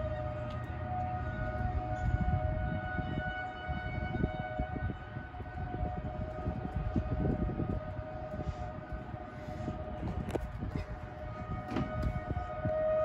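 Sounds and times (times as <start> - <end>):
warning siren steady tone: 0.0 - 13.0.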